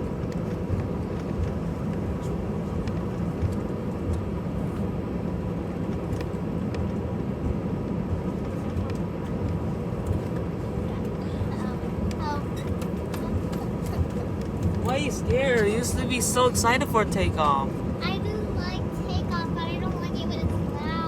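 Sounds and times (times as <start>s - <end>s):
airliner cabin rumble and hum: 0.0s - 21.0s.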